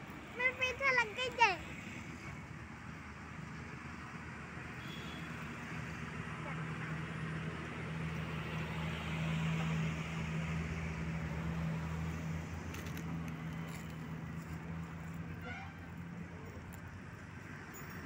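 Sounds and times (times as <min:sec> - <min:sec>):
engine humming evenly: 0:00.0 - 0:18.0.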